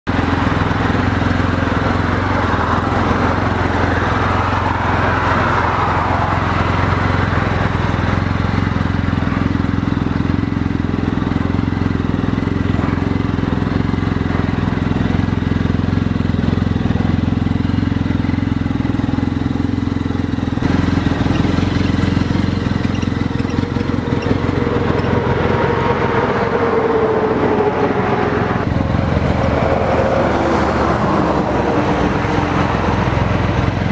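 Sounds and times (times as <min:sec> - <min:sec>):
engine idling: 0:00.1 - 0:33.9.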